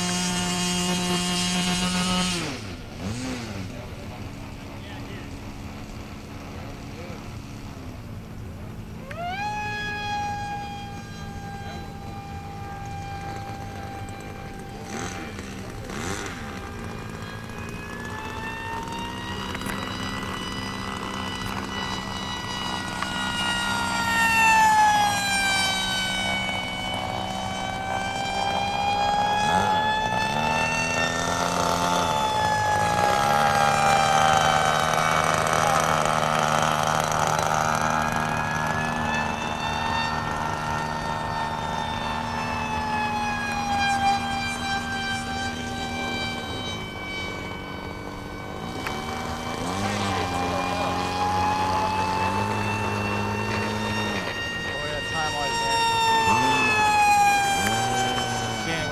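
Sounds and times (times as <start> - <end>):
rc jet whining overhead: 0.0 - 58.9.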